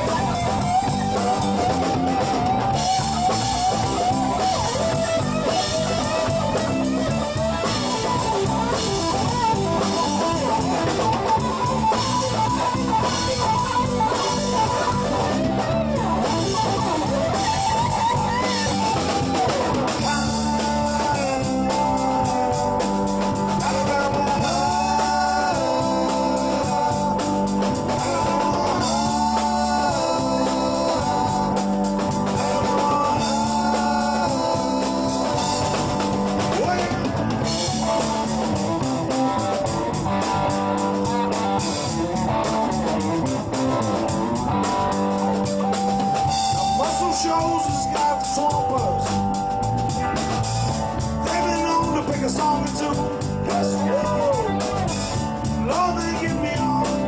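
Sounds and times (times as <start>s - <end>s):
bass guitar: 0.0s - 57.0s
drums: 0.0s - 57.0s
lead guitar bending notes: 0.0s - 57.0s.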